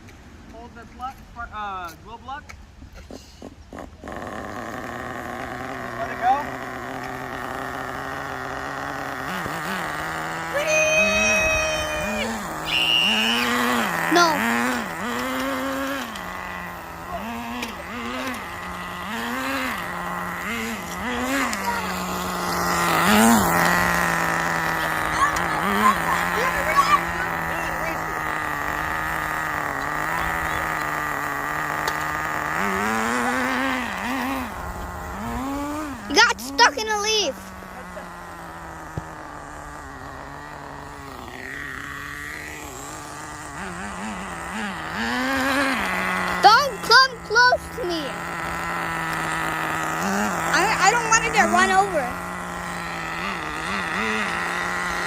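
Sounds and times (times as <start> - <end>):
remote-control car engine revving: 3.0 - 55.0.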